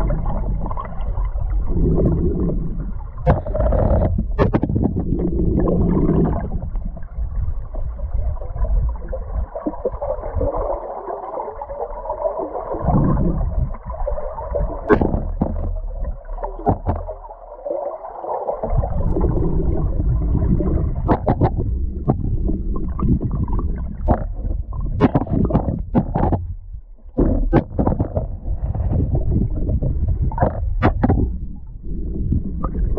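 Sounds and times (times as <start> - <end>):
underwater river current gurgling: 0.0 - 32.9.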